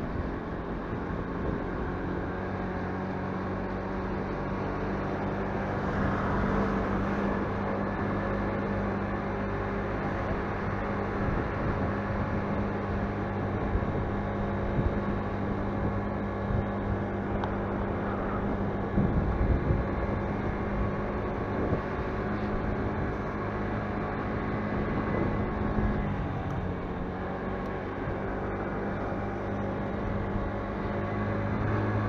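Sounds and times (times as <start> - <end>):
motorcycle engine running: 0.0 - 32.0
road and wind rumble: 0.0 - 32.0.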